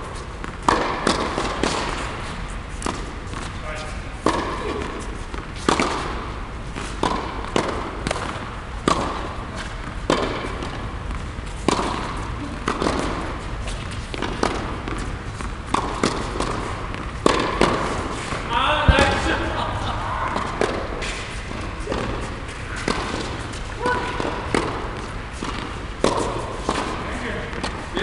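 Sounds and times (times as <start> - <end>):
racquets striking tennis ball: 0.0 - 28.0
tennis ball bouncing: 0.0 - 28.0.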